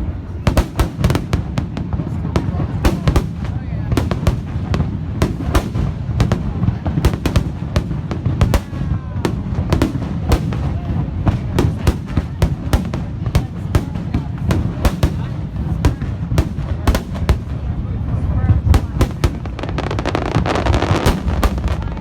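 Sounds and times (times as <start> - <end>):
low rumble of explosions: 0.0 - 22.0
fireworks sharp bangs: 0.1 - 22.0.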